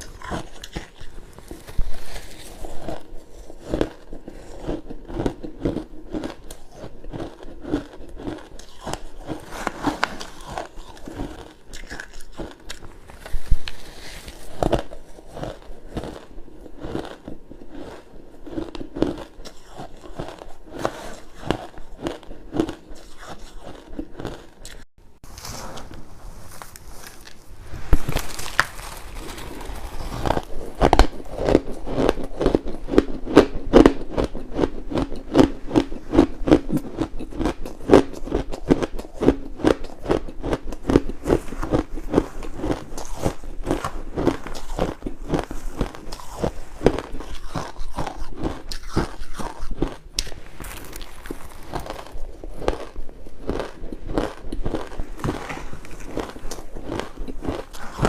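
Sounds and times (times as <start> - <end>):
ice being chewed: 0.0 - 24.9, 28.1 - 58.0.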